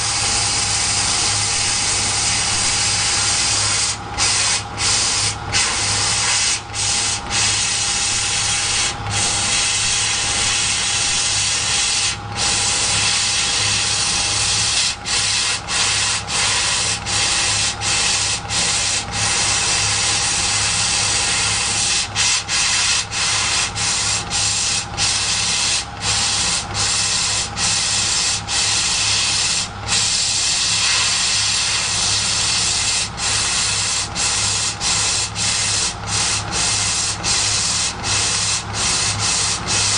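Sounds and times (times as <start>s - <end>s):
laser cutter hissing: 0.0s - 39.9s.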